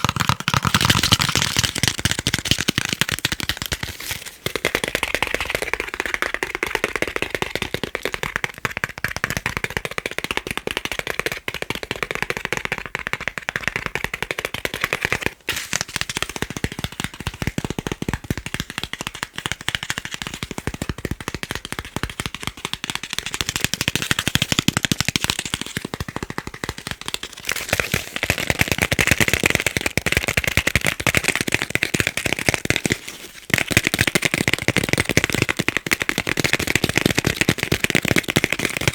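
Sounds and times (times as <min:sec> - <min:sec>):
fast tapping on chocolate: 0:00.0 - 0:38.9.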